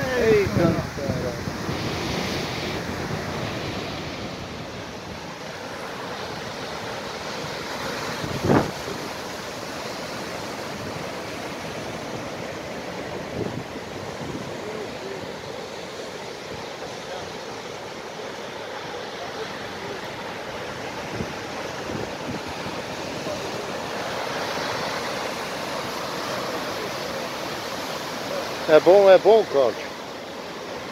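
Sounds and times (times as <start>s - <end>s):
sea surf breaking against rocks: 0.0s - 30.9s.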